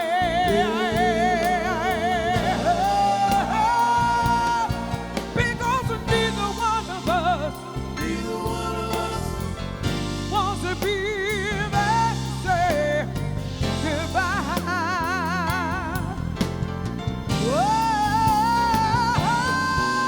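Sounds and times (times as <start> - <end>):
person singing with vibrato: 0.0 - 16.2, 17.4 - 20.0
live band accompaniment: 0.0 - 20.0.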